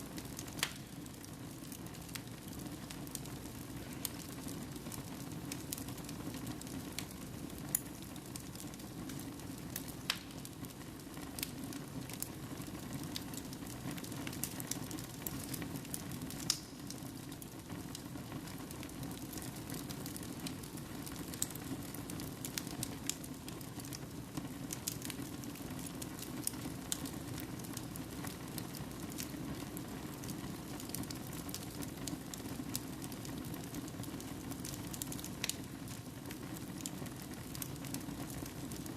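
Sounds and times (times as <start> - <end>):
logs crackling and popping: 0.1 - 38.9.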